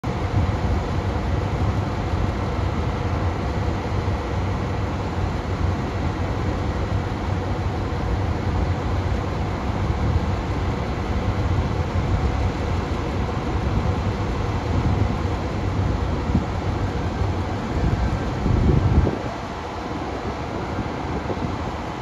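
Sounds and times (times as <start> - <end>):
diesel railcar engines idling: 0.0 - 22.0.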